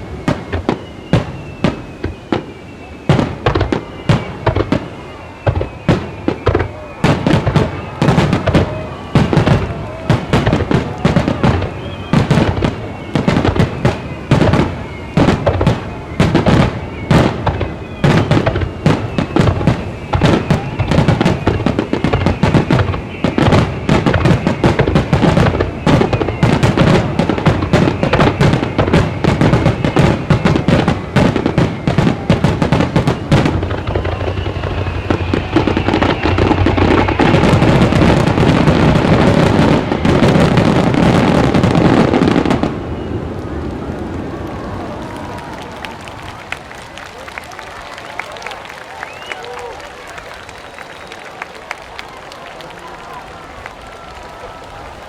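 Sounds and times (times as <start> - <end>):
falling firework whistles: 0.0 - 55.0.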